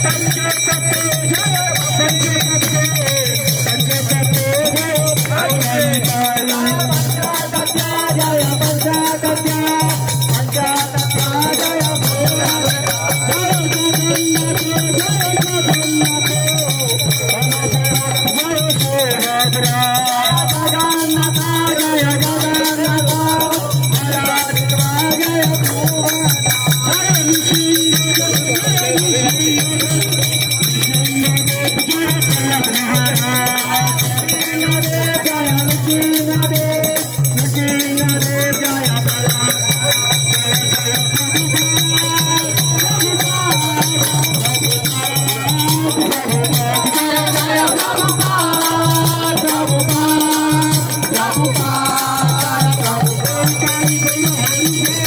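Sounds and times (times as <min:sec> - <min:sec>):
jingling hand cymbals: 0:00.0 - 0:55.0.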